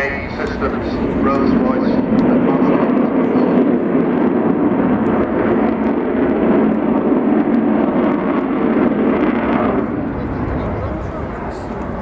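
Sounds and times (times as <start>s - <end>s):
jet engines roaring in flight: 0.0s - 12.0s.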